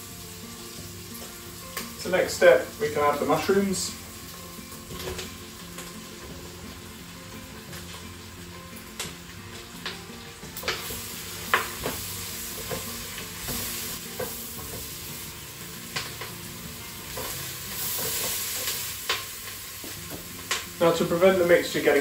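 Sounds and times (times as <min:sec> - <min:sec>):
mushrooms and onions sizzling: 0:00.0 - 0:22.0.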